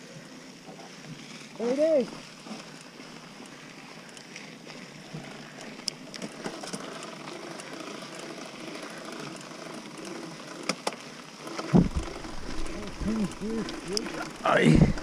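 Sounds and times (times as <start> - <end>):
bike tyres on gravel trail: 0.0 - 15.0
bike clicks and rattles: 0.3 - 15.0.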